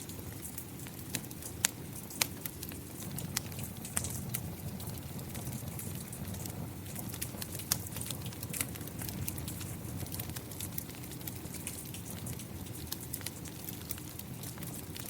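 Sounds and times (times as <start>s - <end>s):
rain falling: 0.0s - 15.0s
wood fire crackling: 0.0s - 15.0s.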